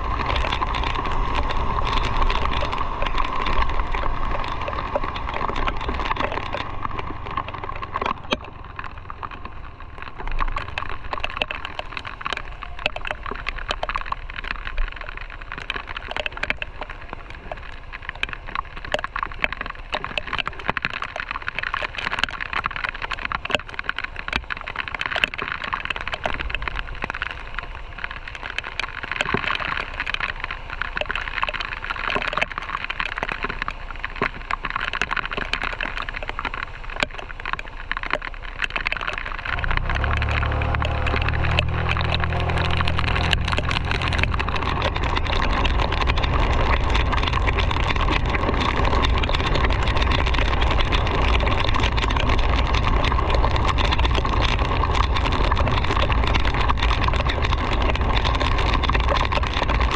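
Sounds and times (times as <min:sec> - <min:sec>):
heavy rain hiss on wet road: 0:00.0 - 0:59.9
raindrops ticking on camera: 0:00.0 - 0:59.9.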